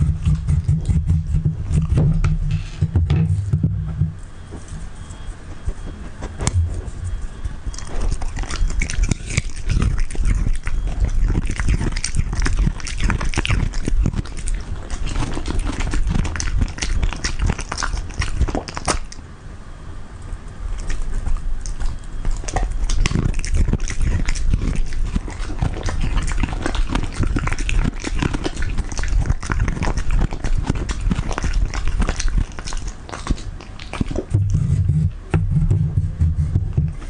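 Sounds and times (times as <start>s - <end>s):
dog chewing with crunching: 0.0s - 19.2s, 20.2s - 37.0s.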